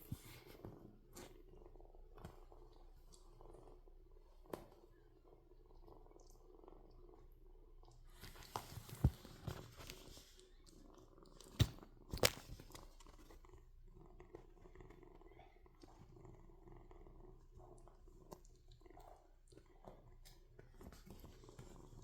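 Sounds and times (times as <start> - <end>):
kitten purring: 0.0 - 22.0.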